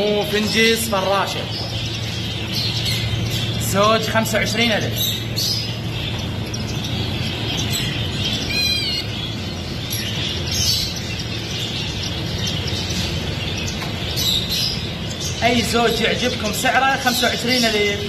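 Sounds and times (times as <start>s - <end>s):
low steady hum: 0.0s - 18.0s
songbirds chirping and twittering: 0.0s - 18.0s.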